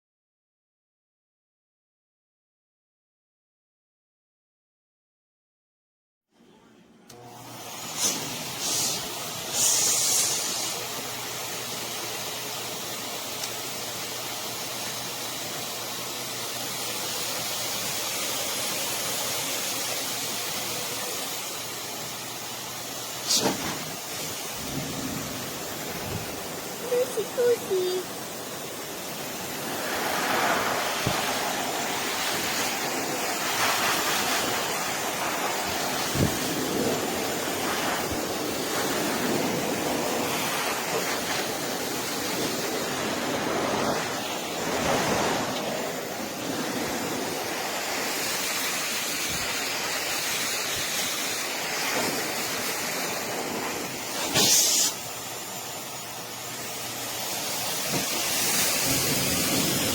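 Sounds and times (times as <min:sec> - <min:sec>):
pet dryer blowing air: 0:07.1 - 0:59.9.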